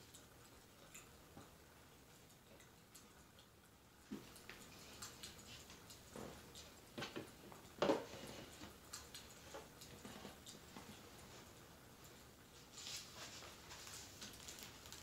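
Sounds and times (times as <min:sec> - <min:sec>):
fireplace crackling: 0:00.0 - 0:15.0.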